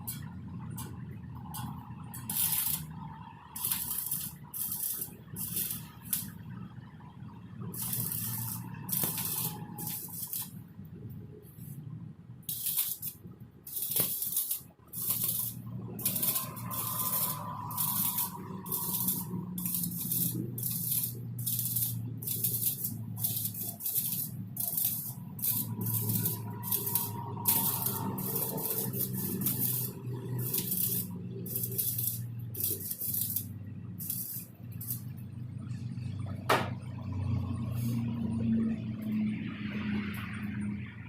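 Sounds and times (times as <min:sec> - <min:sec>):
welding arc crackling: 0:00.0 - 0:11.8, 0:12.4 - 0:35.4
low hum: 0:00.0 - 0:41.0.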